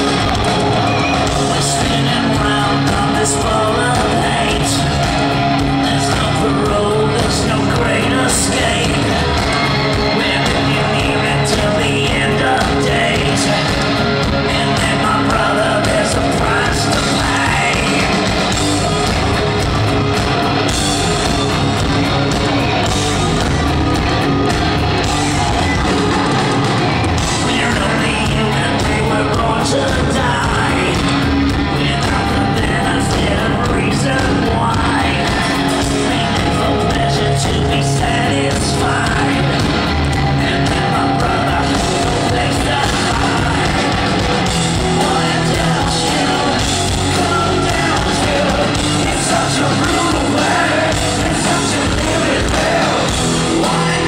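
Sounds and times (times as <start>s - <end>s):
singer singing into microphone: 0.0s - 21.9s, 24.3s - 54.0s
hard rock band playing live: 0.0s - 54.0s.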